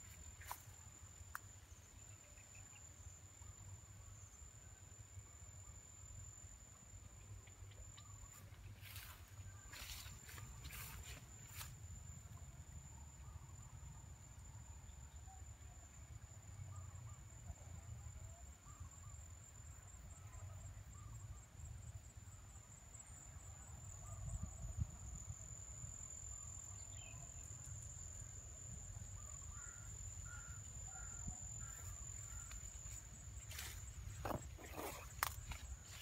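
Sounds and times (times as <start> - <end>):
high-pitched insect trill: 0.0 - 17.2, 18.7 - 36.0.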